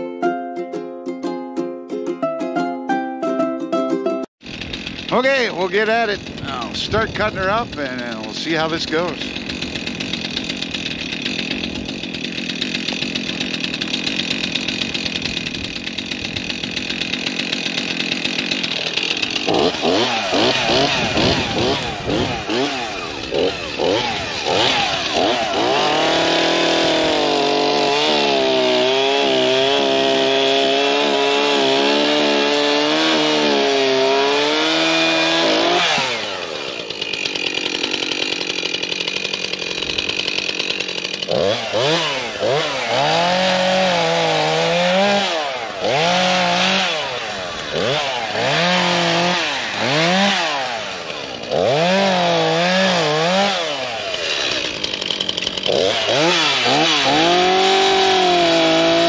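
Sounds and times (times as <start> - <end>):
chainsaw cutting wood: 4.4 - 59.0.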